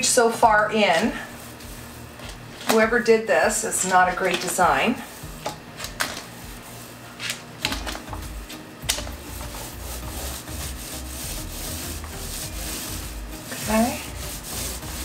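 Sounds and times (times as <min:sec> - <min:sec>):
paint roller rubbing on panel: 0:00.0 - 0:05.3, 0:06.5 - 0:07.4, 0:08.1 - 0:15.0.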